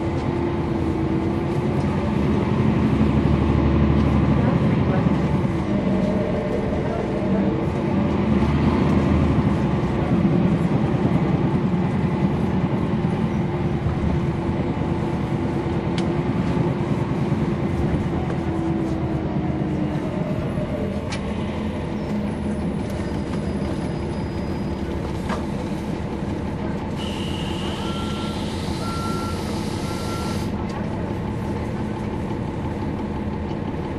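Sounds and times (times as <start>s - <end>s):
bus diesel engine drone: 0.0s - 33.9s.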